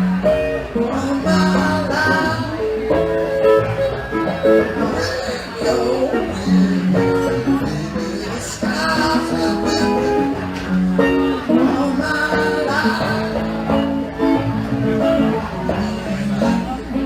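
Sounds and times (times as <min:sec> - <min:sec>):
band playing live: 0:00.0 - 0:17.0.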